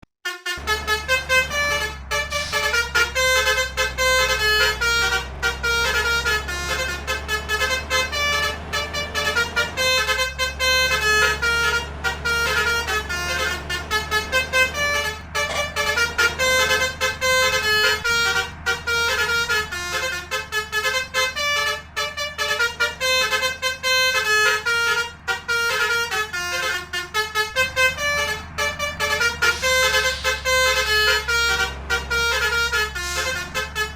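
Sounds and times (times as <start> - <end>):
multi-tone horns playing melody: 0.2 - 33.9
low engine hum: 0.6 - 33.9.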